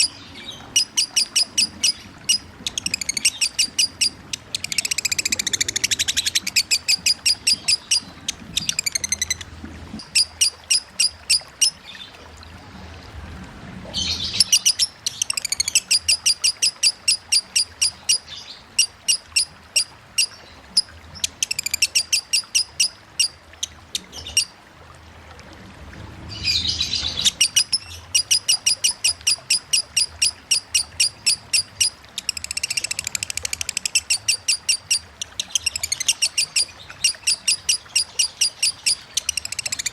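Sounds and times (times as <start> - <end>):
lovebird chattering song: 0.0 - 11.8, 14.2 - 20.3, 21.2 - 23.4, 26.4 - 39.9
running water hiss: 0.0 - 39.9.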